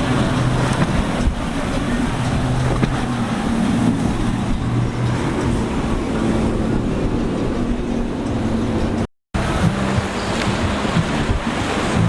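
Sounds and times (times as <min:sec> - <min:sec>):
motorboat engines running: 0:00.0 - 0:12.0
water noise: 0:00.0 - 0:12.0
wind: 0:00.0 - 0:12.0.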